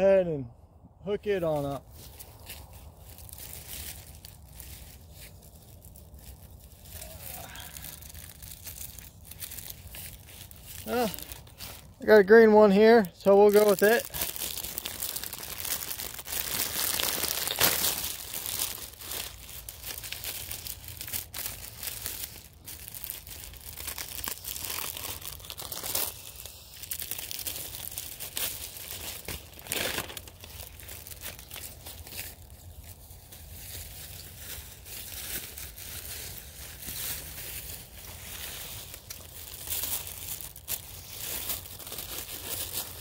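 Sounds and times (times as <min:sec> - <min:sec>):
paper crinkling and rustling: 0:01.5 - 0:12.4, 0:13.2 - 0:43.0.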